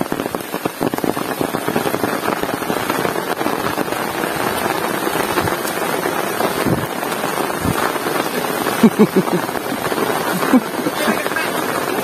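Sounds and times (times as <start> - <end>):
heavy rain on hard surfaces: 0.0 - 12.0.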